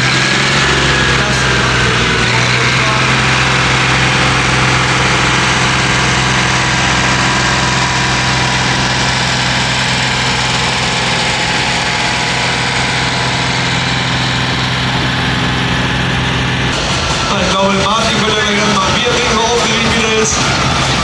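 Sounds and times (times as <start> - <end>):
tractor engine idling: 0.0 - 17.3, 18.6 - 21.0.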